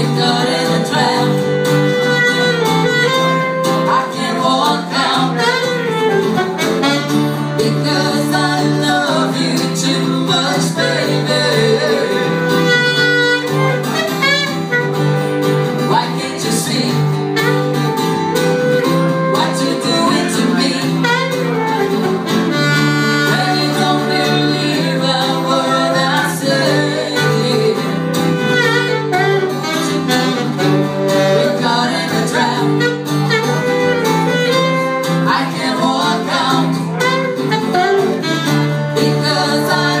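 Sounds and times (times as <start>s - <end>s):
person singing: 0.0s - 13.7s, 15.7s - 17.7s, 18.8s - 22.3s, 23.0s - 40.0s
saxophone: 0.0s - 40.0s
strummed acoustic guitar: 0.0s - 40.0s.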